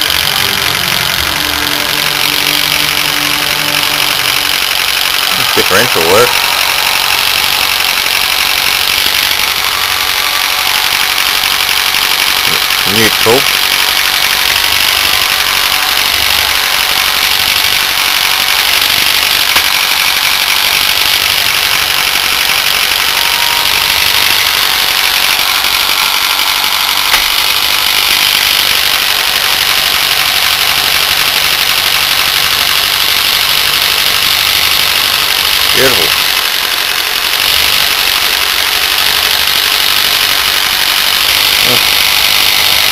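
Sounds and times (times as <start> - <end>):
electric motor whirring: 0.0 - 42.9.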